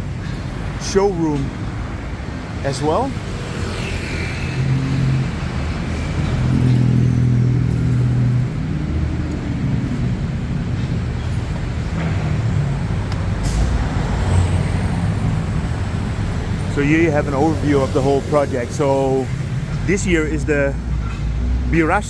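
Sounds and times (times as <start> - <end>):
heavy vehicle engine humming: 0.0 - 22.0
road traffic noise: 0.0 - 22.0.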